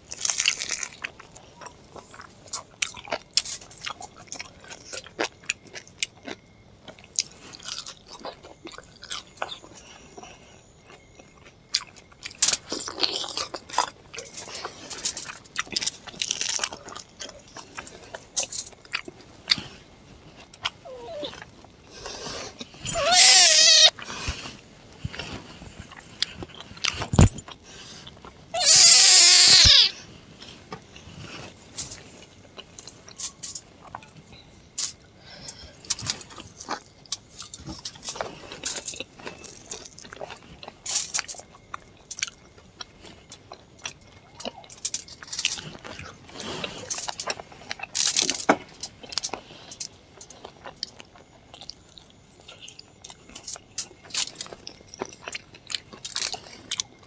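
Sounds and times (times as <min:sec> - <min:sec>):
crackling food: 0:00.0 - 0:57.0
wet chewing: 0:00.1 - 0:24.4, 0:31.9 - 0:57.0.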